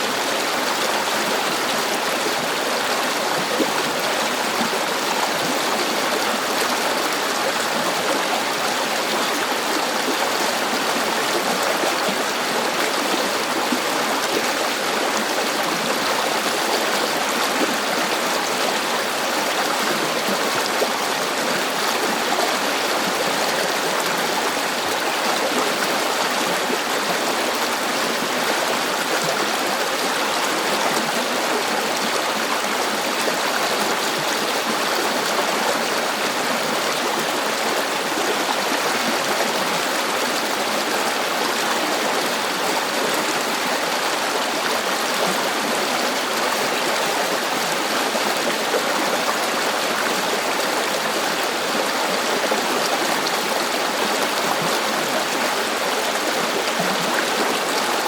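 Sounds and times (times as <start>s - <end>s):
river water babbling over rocks: 0.0s - 58.0s.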